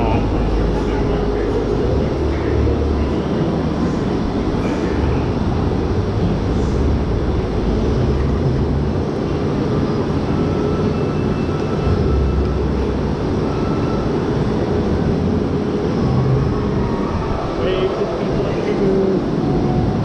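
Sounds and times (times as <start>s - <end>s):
low hum: 0.0s - 20.0s
roller coaster train rumbling: 0.0s - 20.0s.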